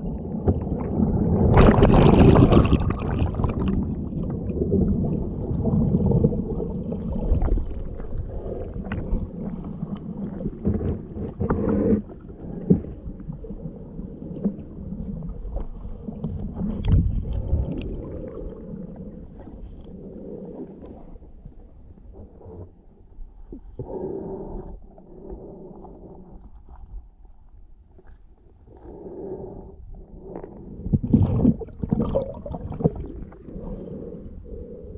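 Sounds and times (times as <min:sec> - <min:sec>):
muffled underwater water rumble: 0:00.0 - 0:34.9.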